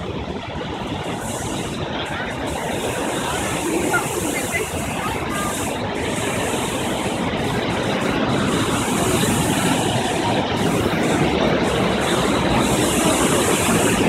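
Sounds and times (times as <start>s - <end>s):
loud rushing noise: 0.0s - 14.0s.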